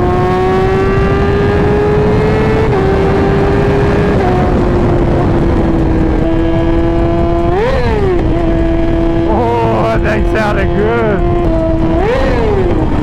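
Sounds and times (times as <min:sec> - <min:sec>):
motorcycle engine at high revs: 0:00.0 - 0:13.0
wind noise on microphone: 0:00.0 - 0:13.0.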